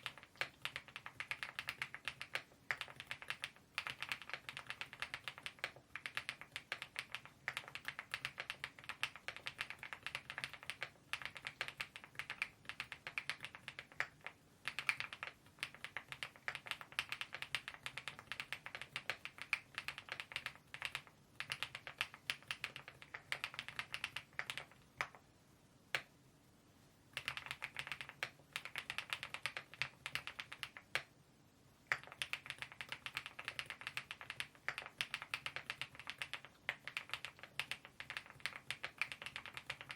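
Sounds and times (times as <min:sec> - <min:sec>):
fast mechanical keyboard typing: 0:00.0 - 0:25.2, 0:27.2 - 0:31.1, 0:31.9 - 0:39.9.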